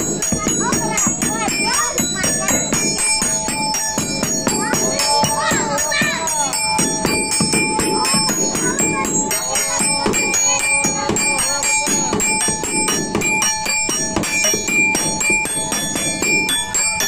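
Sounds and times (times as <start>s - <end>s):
repeated ringing notes music: 0.0s - 17.0s.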